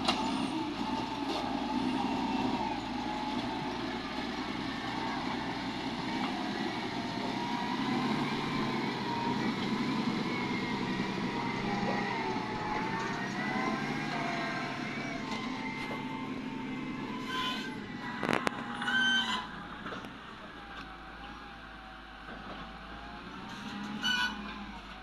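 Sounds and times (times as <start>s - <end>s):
diesel engine running under load: 0.0s - 25.0s
high wavering whine: 0.0s - 25.0s.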